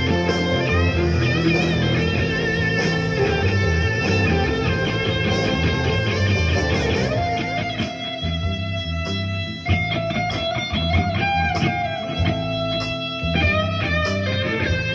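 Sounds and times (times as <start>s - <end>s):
electric guitar blues lead: 0.0s - 14.9s
low bass line: 0.0s - 14.9s.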